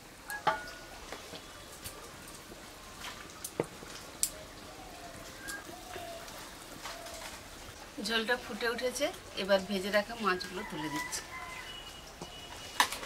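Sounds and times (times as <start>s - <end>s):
broth boiling in metal pot: 0.0s - 13.0s.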